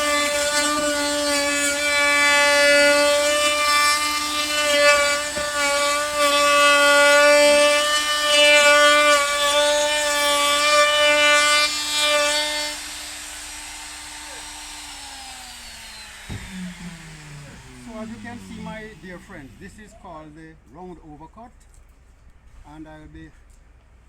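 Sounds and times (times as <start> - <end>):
wood router whining: 0.0 - 20.2.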